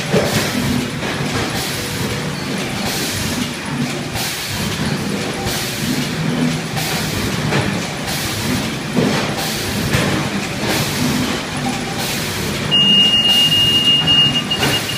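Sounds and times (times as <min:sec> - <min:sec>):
packing machine running: 0:00.0 - 0:14.9.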